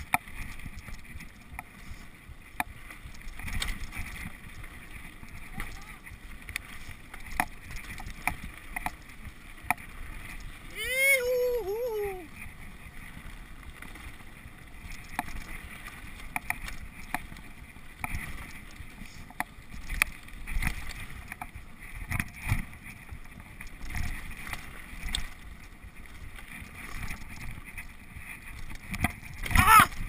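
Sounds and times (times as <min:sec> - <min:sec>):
wind on microphone: 0:00.0 - 0:13.1, 0:14.5 - 0:30.0
bike clicks and knocks over bumps: 0:00.0 - 0:30.0
rumble of bike tyres on dirt: 0:00.0 - 0:30.0.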